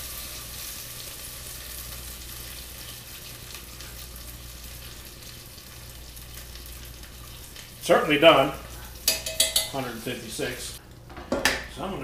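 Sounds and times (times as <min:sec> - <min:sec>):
burger patty sizzling: 0:00.0 - 0:10.9.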